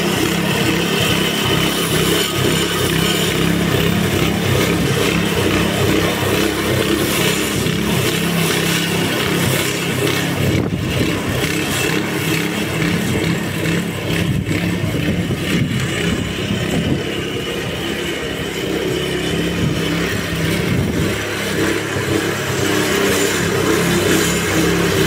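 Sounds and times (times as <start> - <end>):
lawn scarifier engine running: 0.0 - 25.0.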